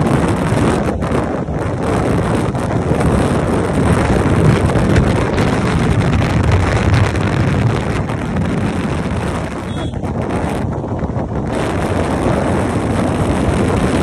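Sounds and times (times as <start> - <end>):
road noise: 0.0 - 14.0
wind buffeting microphone: 0.0 - 14.0
motorcycle engine: 0.1 - 14.0.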